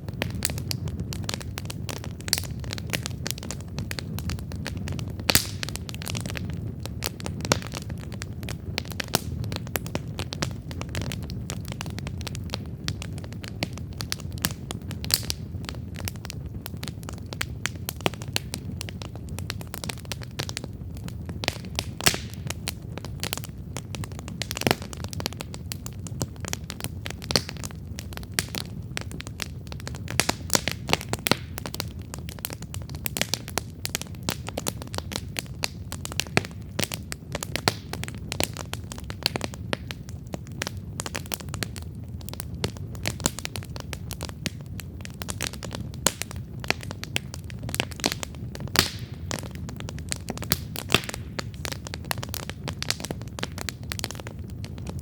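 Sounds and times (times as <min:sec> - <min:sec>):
campfire crackling and popping: 0:00.0 - 0:55.0
low rush of flame: 0:00.0 - 0:55.0.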